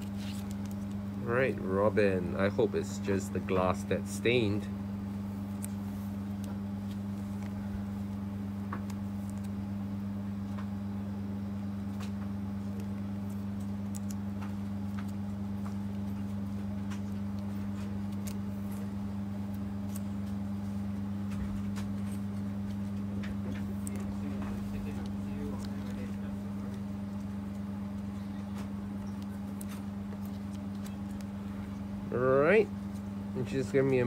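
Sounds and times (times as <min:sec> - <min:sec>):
trading cards being handled: 0:00.0 - 0:10.8, 0:11.8 - 0:34.0
steady low hum: 0:00.0 - 0:34.0.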